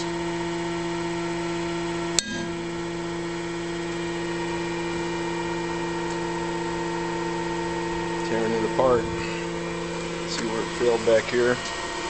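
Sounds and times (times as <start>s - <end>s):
testing machine motor humming: 0.0s - 12.0s.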